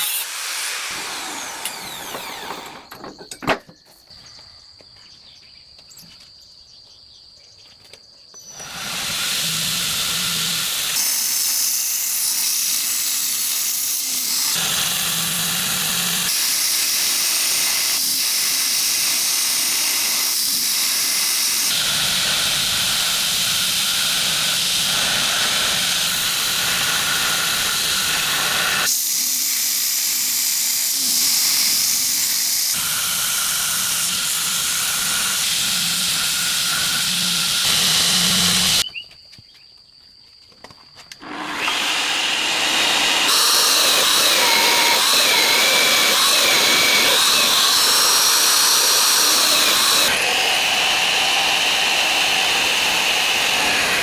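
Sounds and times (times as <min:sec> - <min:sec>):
power grinder grinding blade: 0:00.0 - 0:03.4, 0:08.5 - 0:38.8, 0:41.2 - 0:54.0.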